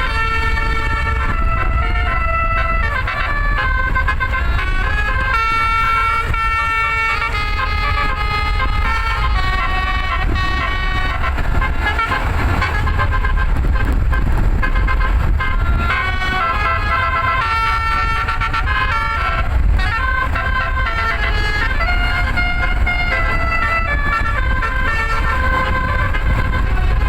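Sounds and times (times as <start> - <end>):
engine and road rumble: 0.0 - 27.0
multi-tone bus horn melody: 0.0 - 27.0.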